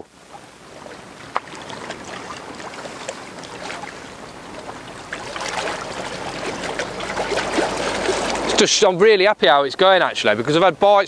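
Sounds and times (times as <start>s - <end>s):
waves lapping against bank: 0.0s - 11.0s.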